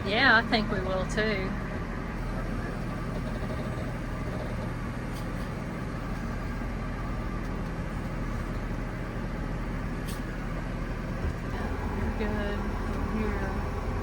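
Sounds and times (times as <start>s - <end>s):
motorhome engine drone: 0.0s - 14.0s
road noise: 0.0s - 14.0s.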